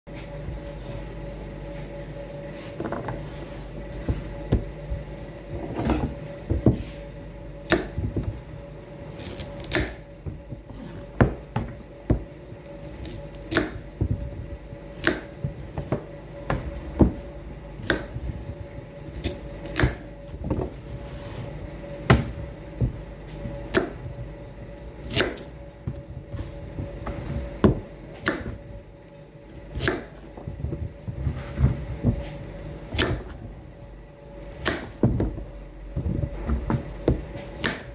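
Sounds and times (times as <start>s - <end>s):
faint steady hum: 0.1s - 37.9s.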